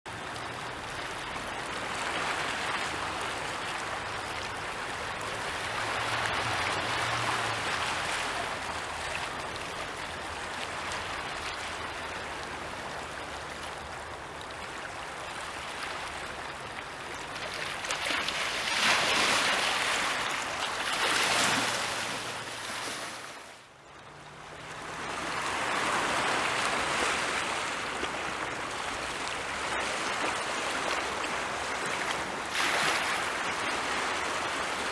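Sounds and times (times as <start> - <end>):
sea waves washing onto shore: 0.1 - 34.9.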